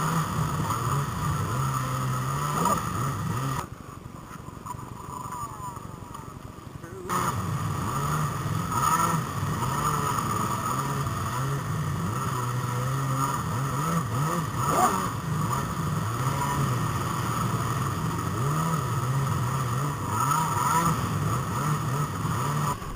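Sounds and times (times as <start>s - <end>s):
low droning hum: 4.2s - 22.9s.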